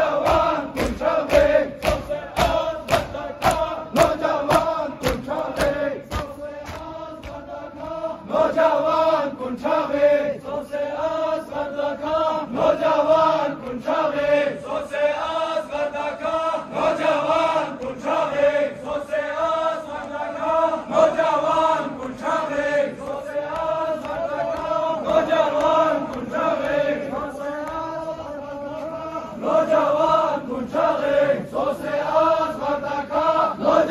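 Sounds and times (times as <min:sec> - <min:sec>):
men chanting in unison: 0:00.0 - 0:33.9.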